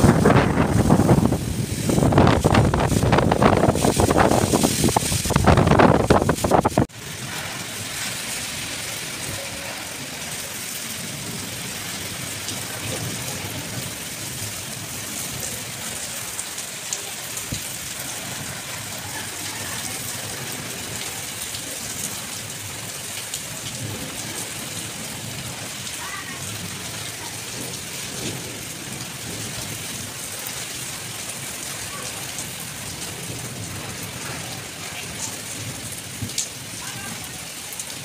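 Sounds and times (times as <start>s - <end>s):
heavy rain on standing water: 0.0s - 38.0s.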